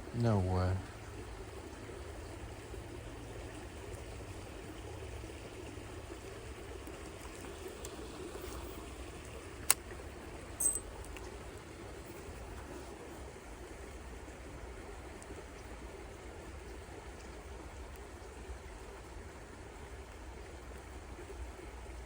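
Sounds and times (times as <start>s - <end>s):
creek water trickling: 0.0s - 22.0s.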